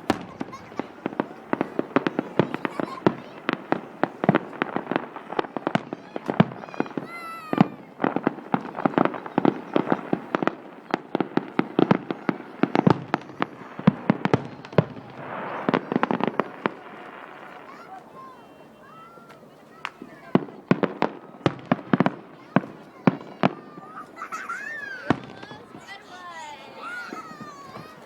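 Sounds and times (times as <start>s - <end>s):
fireworks bangs: 0.0s - 28.0s
whistling firework: 0.0s - 28.0s.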